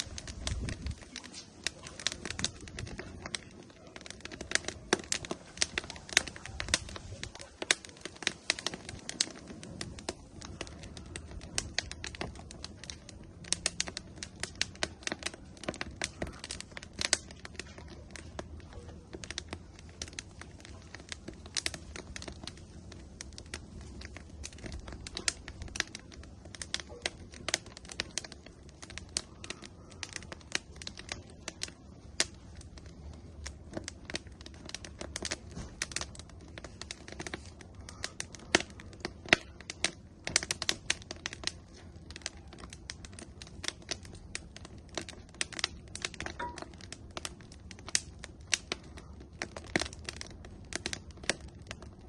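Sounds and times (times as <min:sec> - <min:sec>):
low rumble of flames: 0:00.0 - 0:52.0
wood fire crackling and popping: 0:00.0 - 0:52.0.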